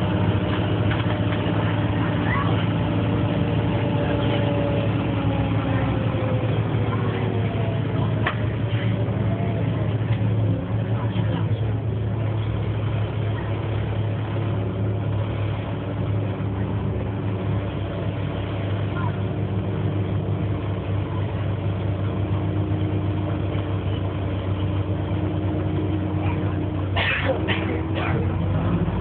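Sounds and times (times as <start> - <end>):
bus diesel engine humming: 0.0 - 29.0.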